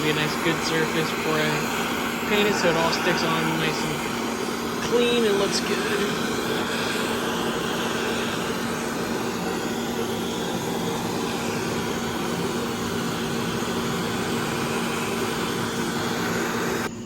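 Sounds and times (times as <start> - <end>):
gas torch hissing: 0.0 - 17.0
low hum: 0.0 - 17.0.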